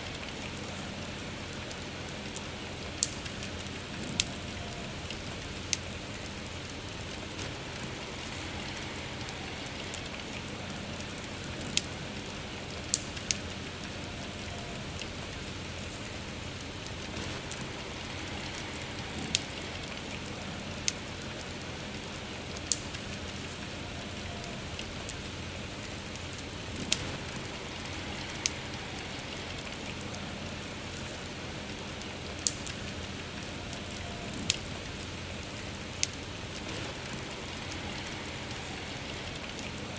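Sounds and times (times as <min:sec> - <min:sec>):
campfire crackling and popping: 0:00.0 - 0:39.9
steady rain: 0:00.0 - 0:39.9.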